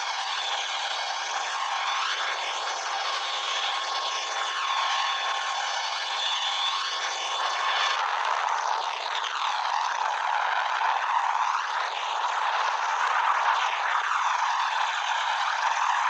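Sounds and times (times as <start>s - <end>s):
faint high whine: 0.0s - 16.0s
helicopter drone: 0.0s - 16.0s.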